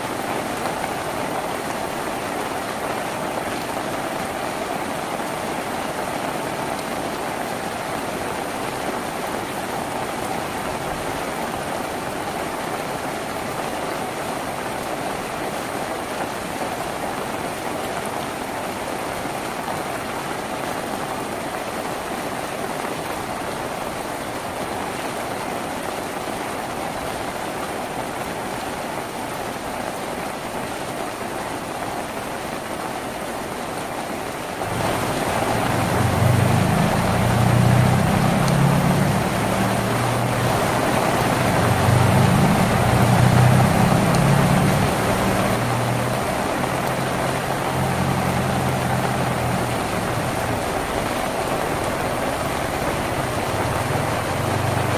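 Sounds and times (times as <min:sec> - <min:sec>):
rain on a tin roof: 0:00.0 - 0:54.9.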